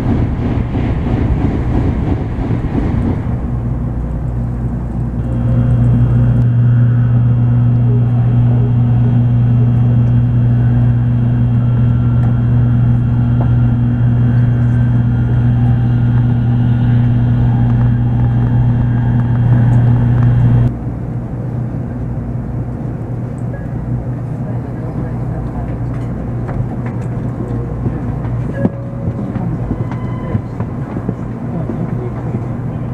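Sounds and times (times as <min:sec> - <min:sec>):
train rumble: 0:00.0 - 0:32.9
train running drone: 0:00.0 - 0:32.9.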